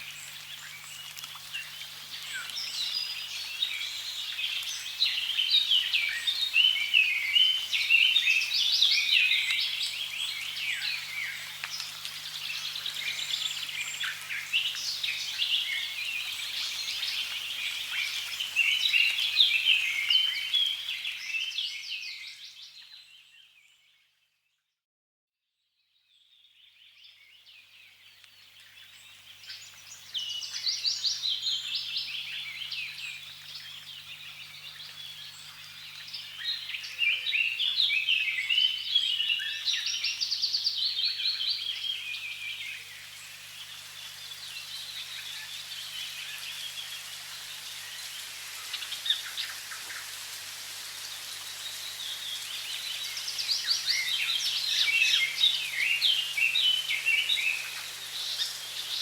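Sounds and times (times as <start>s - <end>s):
faint steady hiss: 0.0s - 23.7s, 26.1s - 59.0s
songbirds chirping and trilling: 0.0s - 23.9s, 26.3s - 59.0s.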